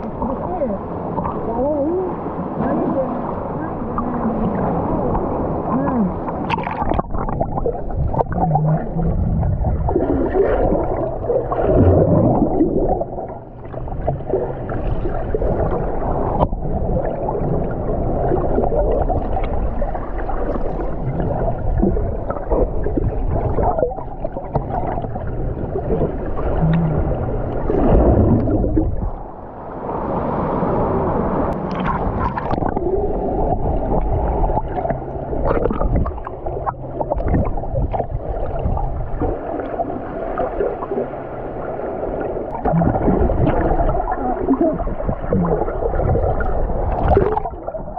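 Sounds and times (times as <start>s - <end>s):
muffled water sloshing and gurgling: 0.0s - 47.9s.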